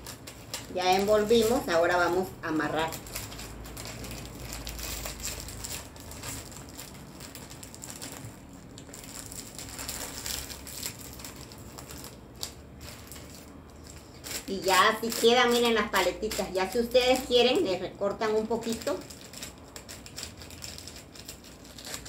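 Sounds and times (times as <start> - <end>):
cellophane wrap crinkling: 0.0 - 22.0.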